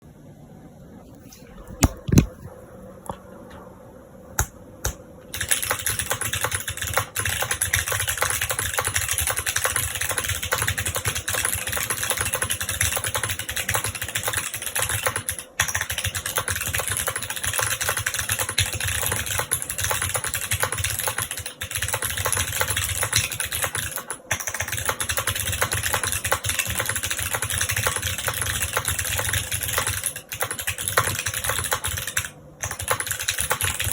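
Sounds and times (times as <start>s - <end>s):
clicky mechanical keyboard typing: 5.3s - 33.9s.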